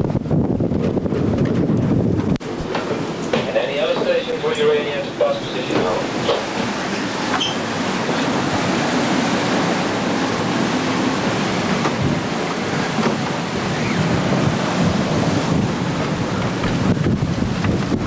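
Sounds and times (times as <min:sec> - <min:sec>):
waves rushing along hull: 0:00.0 - 0:18.0
wind buffeting microphone: 0:00.0 - 0:18.0.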